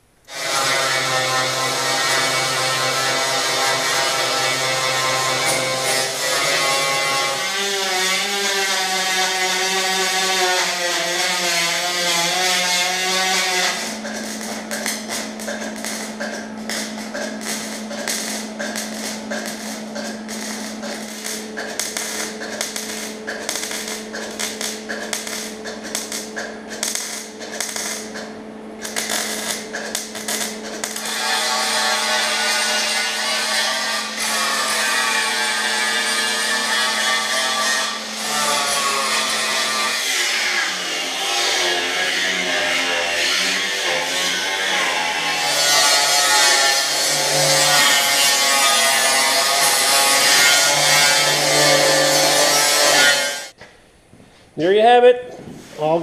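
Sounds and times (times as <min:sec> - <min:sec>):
welder crackling: 0:00.2 - 0:53.8
angle grinder on steel: 0:00.3 - 0:53.6.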